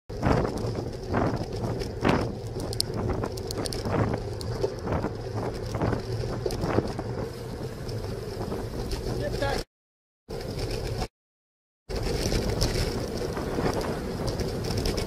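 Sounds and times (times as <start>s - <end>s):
wind on microphone: 0.1s - 9.6s, 11.9s - 15.0s
bicycle tyres rolling: 0.1s - 9.7s, 10.3s - 11.1s, 11.9s - 15.0s.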